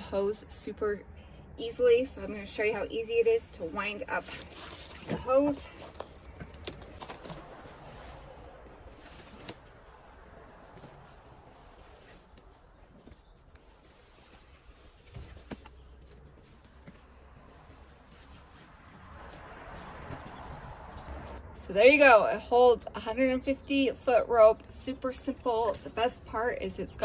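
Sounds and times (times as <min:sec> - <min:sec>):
garden hose rustling and scuffing: 0:01.8 - 0:21.4, 0:24.0 - 0:26.5.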